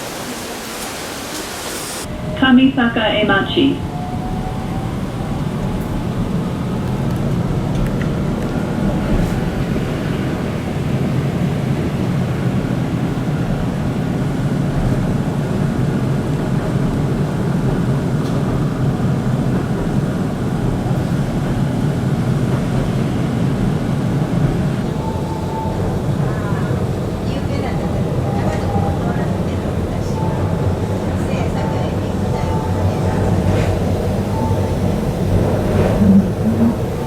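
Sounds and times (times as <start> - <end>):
train rumbling on tracks: 0.0 - 37.0.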